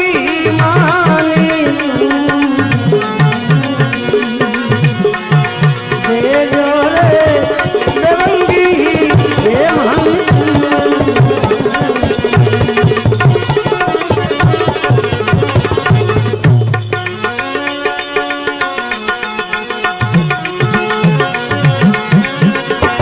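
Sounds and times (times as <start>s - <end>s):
tabla beating quick rhythm: 0.0s - 23.0s.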